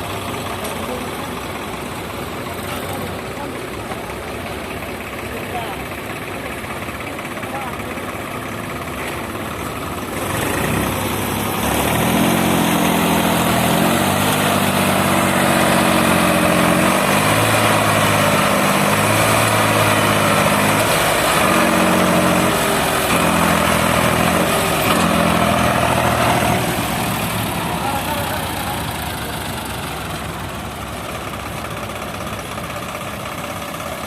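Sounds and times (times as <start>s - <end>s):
heavy vehicle engine running: 0.0s - 34.0s.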